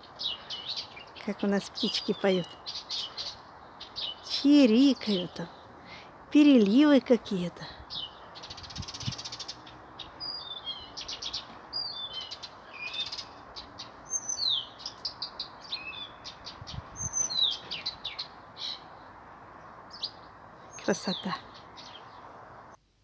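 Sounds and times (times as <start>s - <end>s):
songbirds singing: 0.0s - 22.8s.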